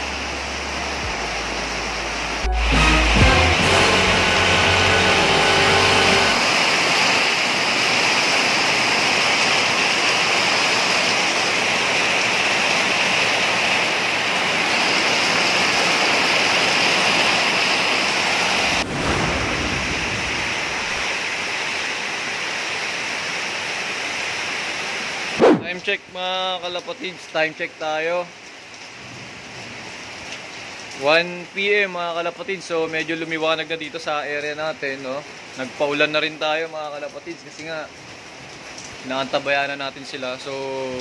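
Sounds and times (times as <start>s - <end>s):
heavy rain on metal roofs: 0.0s - 41.0s.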